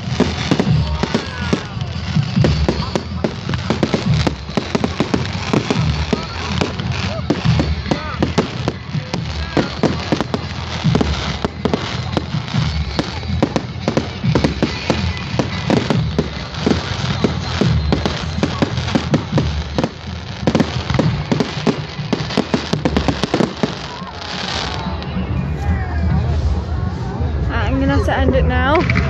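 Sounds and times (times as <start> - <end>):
fireworks bangs and crackles: 0.0 - 25.5.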